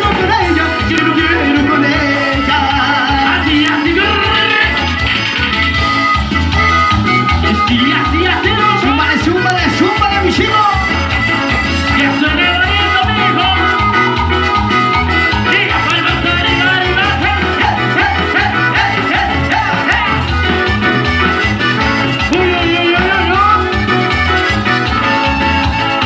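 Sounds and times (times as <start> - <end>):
latin dance band music: 0.0 - 26.0
steady bass beat: 0.0 - 26.0.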